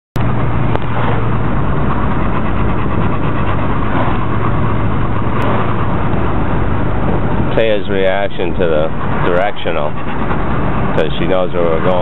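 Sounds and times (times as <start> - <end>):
car engine and road noise: 0.2 - 12.0
low hum: 0.2 - 12.0.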